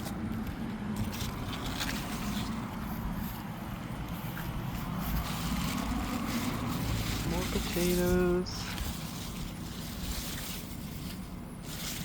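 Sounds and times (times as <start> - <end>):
faint rustles: 1.0 - 12.0.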